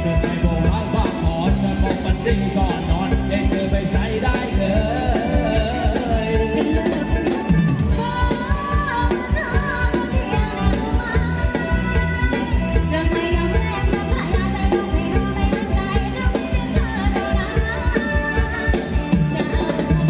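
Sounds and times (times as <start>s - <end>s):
dance band music: 0.0s - 20.0s
drum kit beat: 0.0s - 20.0s.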